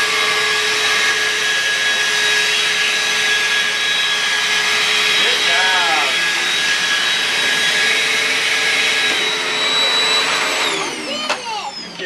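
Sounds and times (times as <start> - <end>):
vacuum cleaner whining: 0.0 - 12.0.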